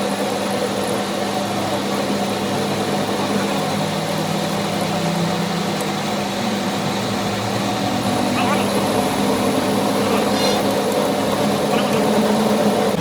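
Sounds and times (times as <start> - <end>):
machine droning: 0.0 - 13.0.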